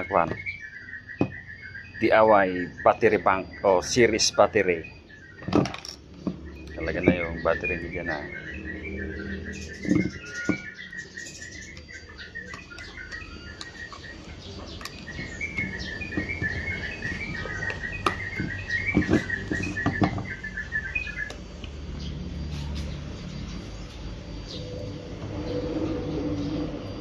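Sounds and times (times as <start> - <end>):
bird chirping: 0.0 - 27.0.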